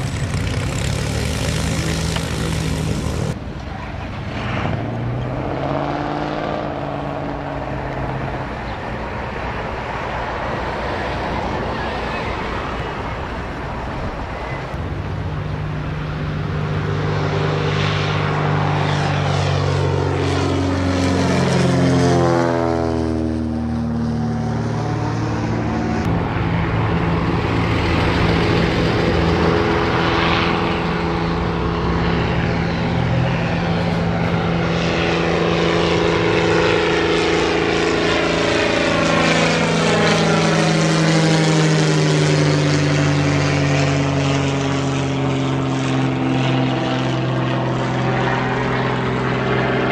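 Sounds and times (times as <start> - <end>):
propeller airplane engine drone: 0.0 - 49.9.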